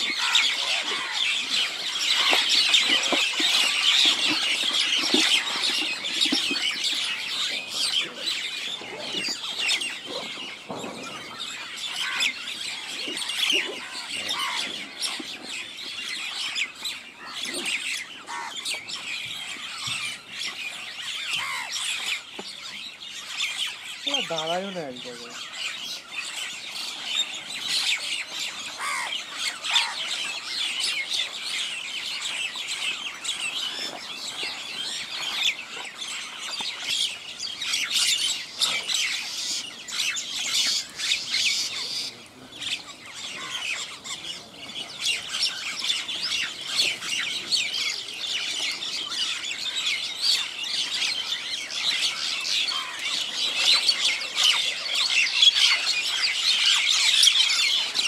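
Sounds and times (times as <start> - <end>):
crows and mynas calling: 0.0 - 58.0.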